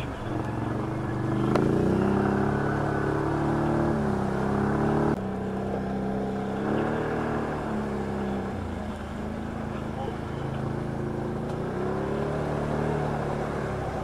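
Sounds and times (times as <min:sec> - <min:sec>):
atv engine under throttle: 0:00.0 - 0:14.0.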